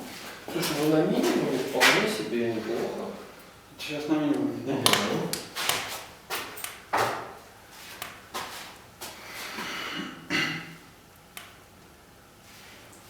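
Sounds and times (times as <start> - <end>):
wood fire crackling: 0.0 - 9.4, 10.9 - 13.0.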